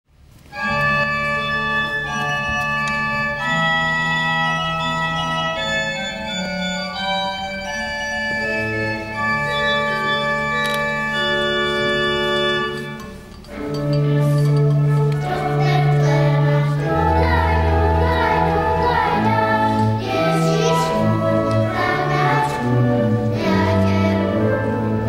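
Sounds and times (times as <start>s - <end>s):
organ chords: 0.5s - 25.0s.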